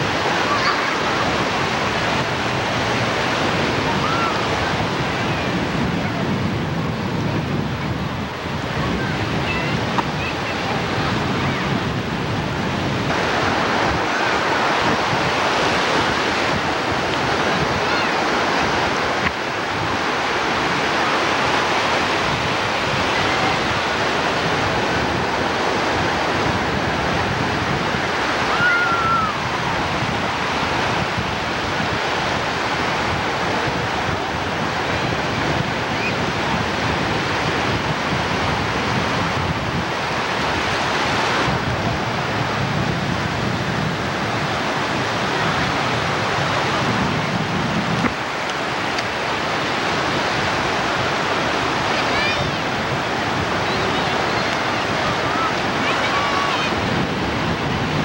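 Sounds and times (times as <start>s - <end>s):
ocean surf waves washing: 0.0s - 58.0s.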